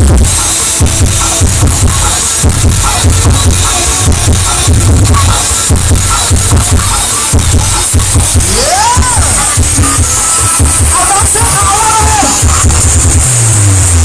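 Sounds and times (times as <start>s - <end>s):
loud dance music with heavy bass: 0.0s - 14.0s.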